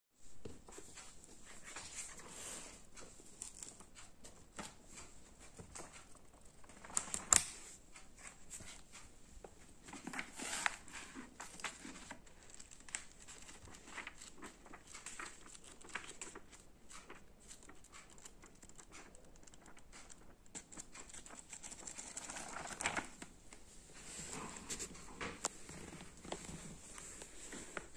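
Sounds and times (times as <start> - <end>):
book pages rustling: 0.4 - 27.9.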